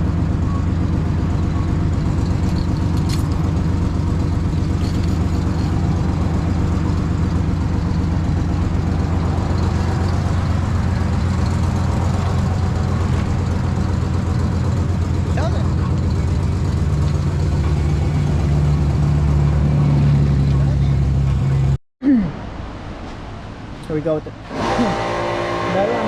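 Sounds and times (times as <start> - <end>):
low pulsing mechanical drone: 0.0 - 22.5.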